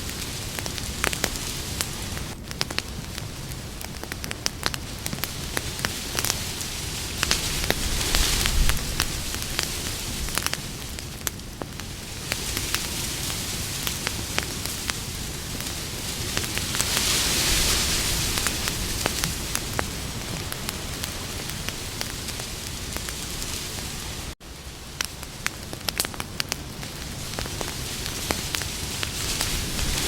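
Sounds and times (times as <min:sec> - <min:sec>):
campfire crackling and hissing: 0:00.0 - 0:30.0.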